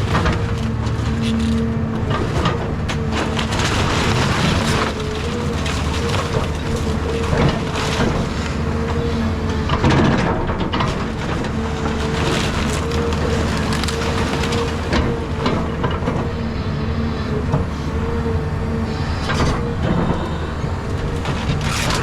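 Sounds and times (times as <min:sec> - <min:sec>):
wood cracking and splintering: 0:00.0 - 0:16.3, 0:19.2 - 0:22.0
excavator diesel engine running: 0:00.0 - 0:22.0.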